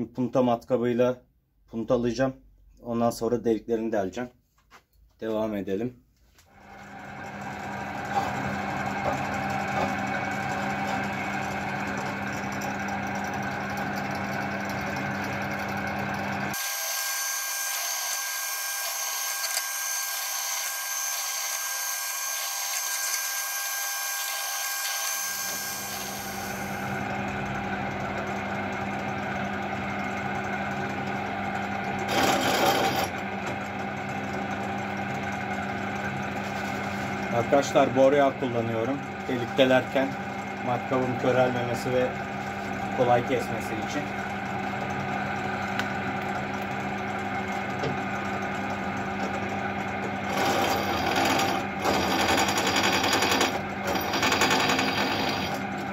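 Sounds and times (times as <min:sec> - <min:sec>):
drill press motor hum: 0:06.5 - 0:55.9.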